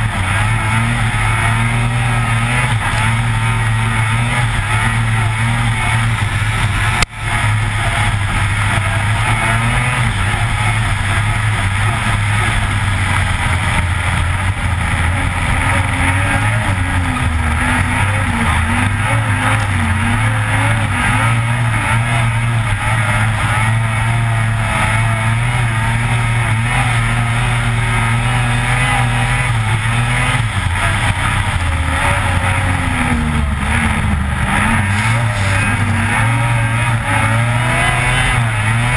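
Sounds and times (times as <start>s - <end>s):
snowmobile engine running hard: 0.0s - 38.9s.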